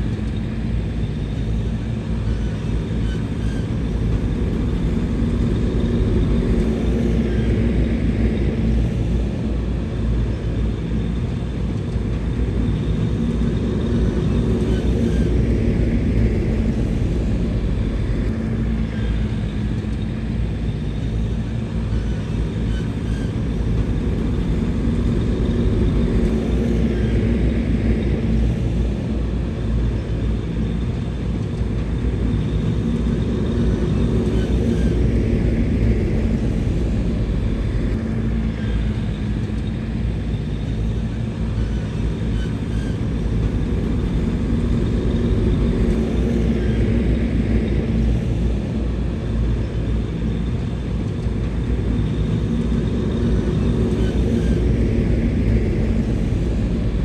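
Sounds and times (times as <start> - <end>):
heavy machinery diesel engine rumbling: 0.0 - 57.0.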